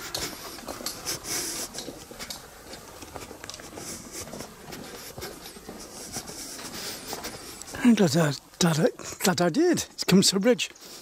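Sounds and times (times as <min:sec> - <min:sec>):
footsteps on gravel: 0:00.0 - 0:09.9.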